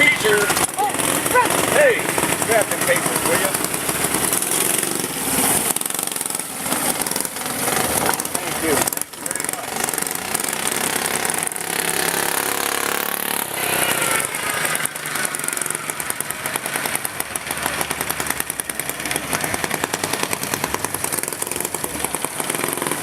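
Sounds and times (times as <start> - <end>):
lawn mower engines revving: 0.0 - 23.0.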